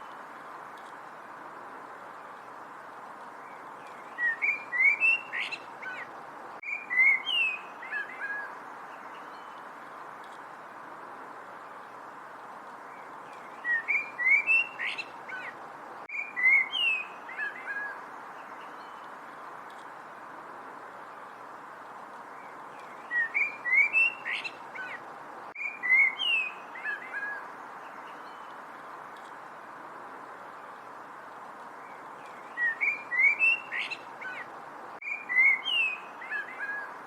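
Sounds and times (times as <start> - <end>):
songbird singing: 0.0 - 37.0
steady hiss: 0.0 - 37.0.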